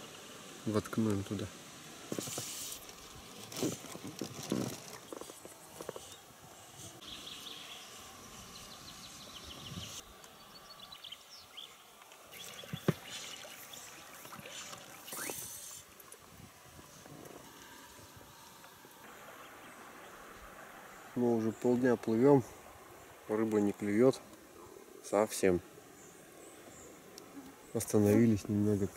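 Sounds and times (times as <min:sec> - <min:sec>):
river ambience: 0:00.0 - 0:28.9.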